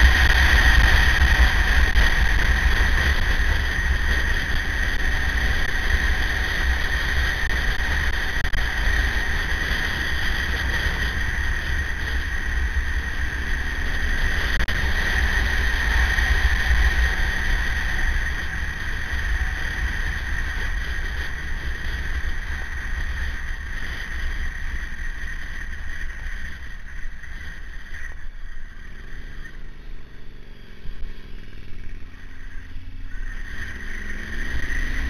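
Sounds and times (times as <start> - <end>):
motorcycle engine running: 0.0 - 35.0
steady high whine: 0.0 - 35.0.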